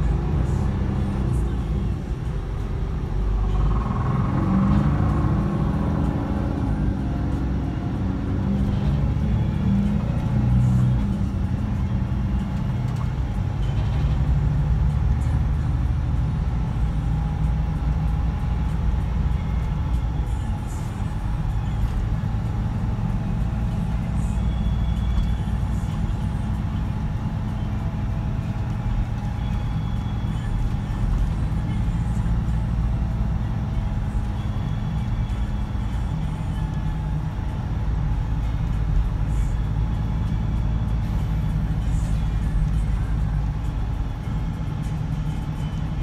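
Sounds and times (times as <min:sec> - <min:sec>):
diesel engine low drone: 0:00.0 - 0:46.0.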